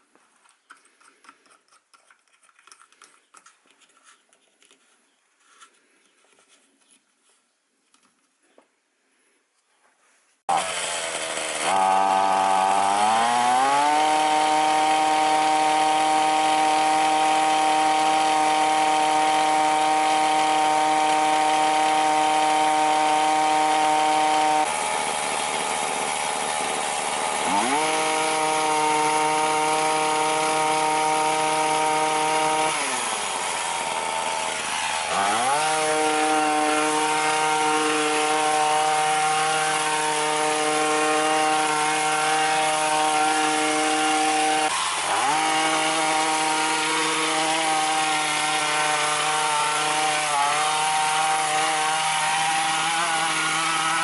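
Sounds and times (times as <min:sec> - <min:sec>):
hedge trimmer engine revving: 0:10.5 - 0:54.0.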